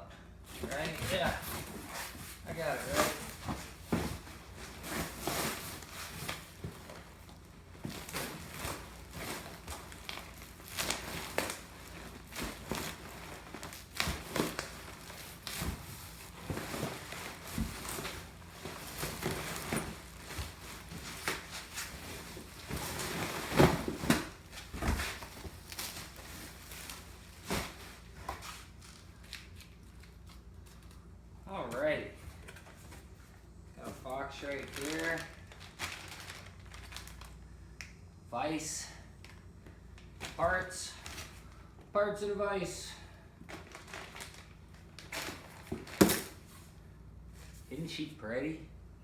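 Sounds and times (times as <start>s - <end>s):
cardboard and packing crinkling: 0.5s - 37.5s, 39.2s - 41.8s, 43.4s - 47.6s.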